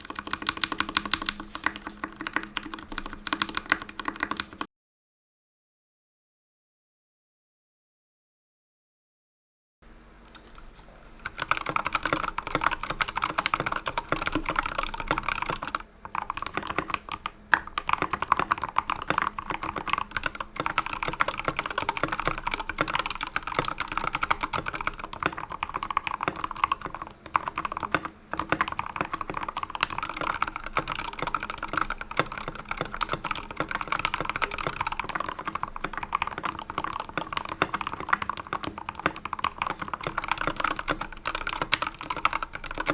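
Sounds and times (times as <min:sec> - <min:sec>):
mechanical keyboard typing: 0:00.0 - 0:04.7, 0:10.3 - 0:42.9.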